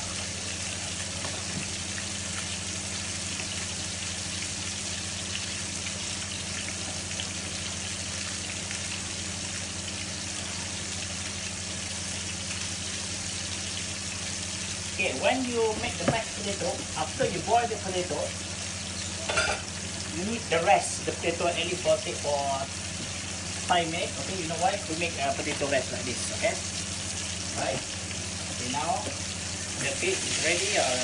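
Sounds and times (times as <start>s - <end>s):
fish sizzling in a frying pan: 0.0s - 31.0s.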